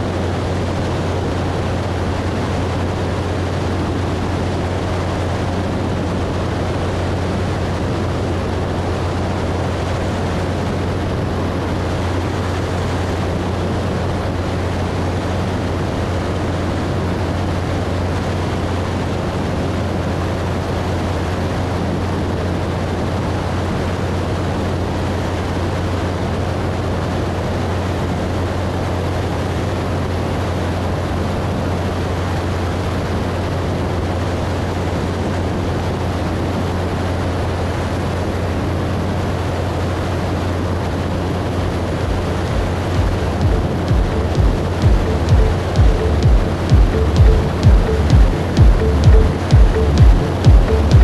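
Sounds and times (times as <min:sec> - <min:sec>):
gyrocopter engine and propeller drone: 0:00.0 - 0:44.9.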